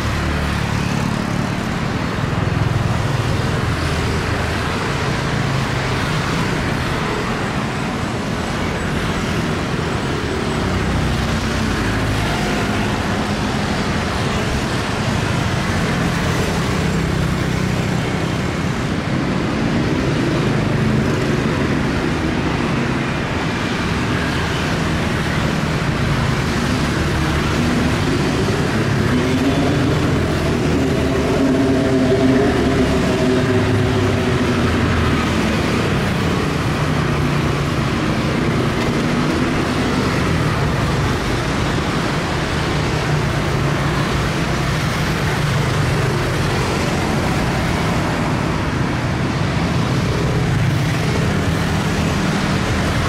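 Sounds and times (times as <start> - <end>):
motorbike and car engines passing: 9.1 - 53.0.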